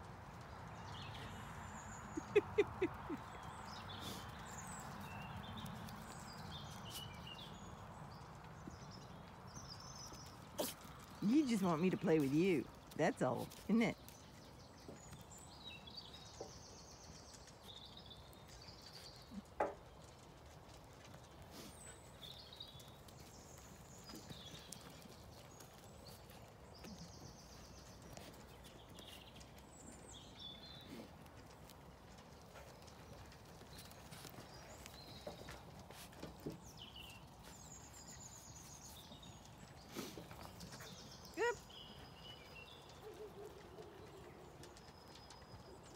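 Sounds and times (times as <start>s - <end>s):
faint birdsong: 0.4s - 45.9s.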